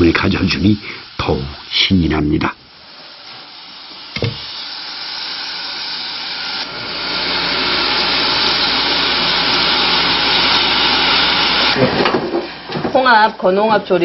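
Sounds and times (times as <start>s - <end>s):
food sizzling in hot pan: 0.0s - 13.2s.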